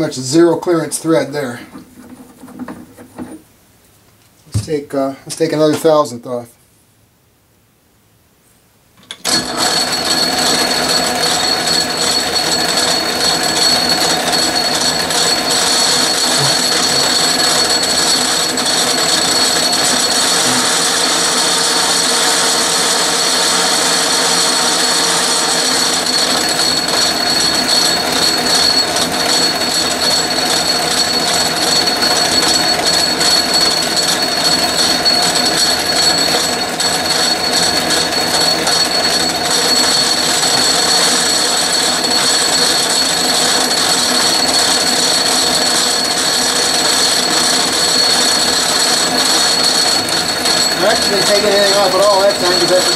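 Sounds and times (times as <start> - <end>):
metal lathe whining: 9.1 - 52.9.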